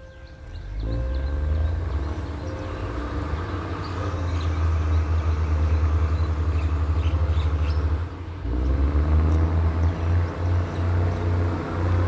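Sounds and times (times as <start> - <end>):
diesel engine throbbing: 0.0 - 12.0.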